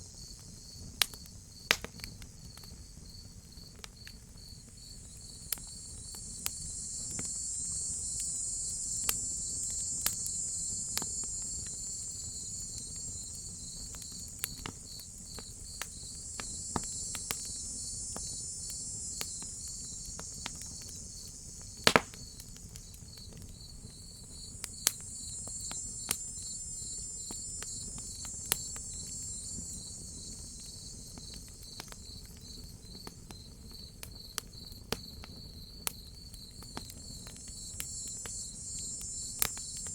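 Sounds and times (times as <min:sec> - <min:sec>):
cicadas droning: 0:00.0 - 0:39.9
crickets chirping: 0:00.0 - 0:39.9
fire crackling and popping: 0:00.0 - 0:39.9.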